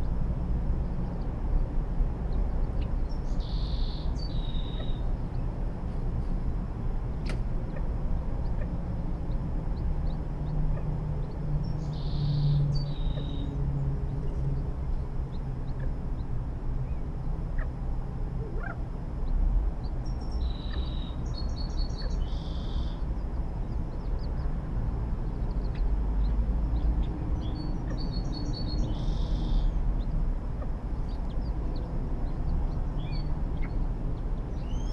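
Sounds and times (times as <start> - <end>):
small birds chirping: 0.0 - 34.9
steady low rumble: 0.0 - 34.9.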